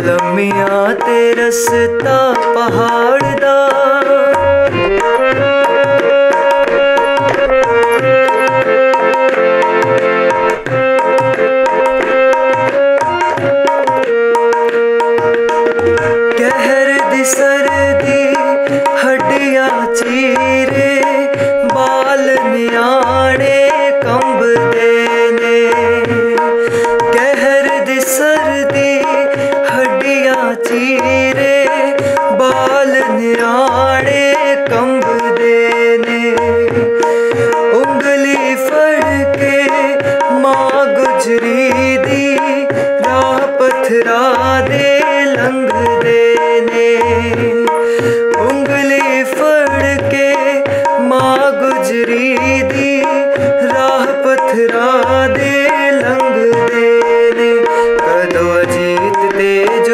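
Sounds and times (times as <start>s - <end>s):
harmonium chords: 0.0s - 59.9s
man singing: 0.0s - 59.9s
tabla playing: 0.0s - 59.9s.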